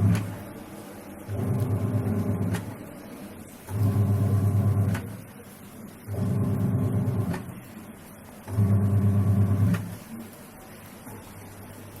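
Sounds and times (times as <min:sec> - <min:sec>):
washing machine motor humming: 0:00.0 - 0:12.0.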